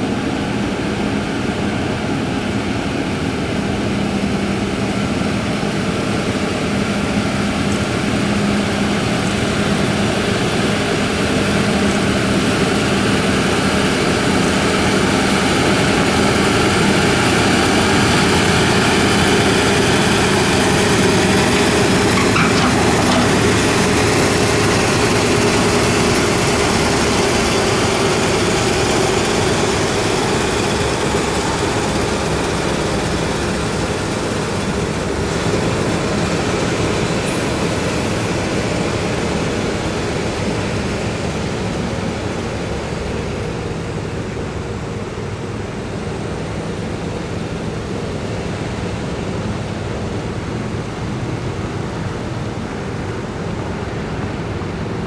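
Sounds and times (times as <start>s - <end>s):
truck diesel engines under load: 0.0s - 55.0s.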